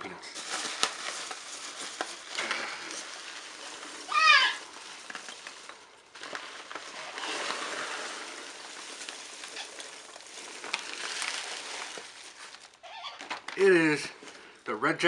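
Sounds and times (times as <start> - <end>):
packing peanuts rustling and squeaking: 0.3 - 14.5.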